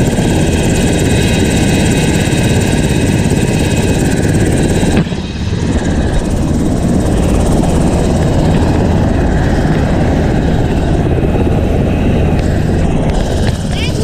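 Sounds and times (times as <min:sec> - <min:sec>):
helicopter rotor noise: 0:00.0 - 0:14.0
high turbine whine: 0:00.0 - 0:14.0.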